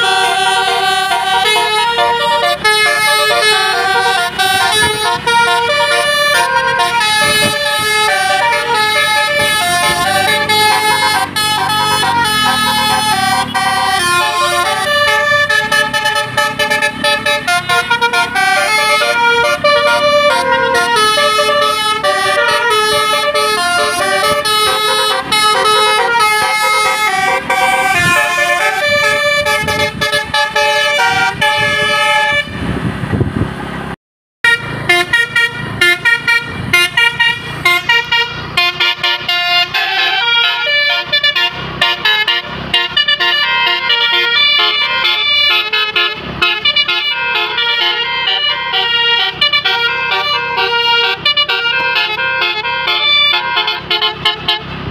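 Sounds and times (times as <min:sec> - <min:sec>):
musical bus horn melody: 0:00.0 - 0:32.8, 0:34.4 - 0:54.9.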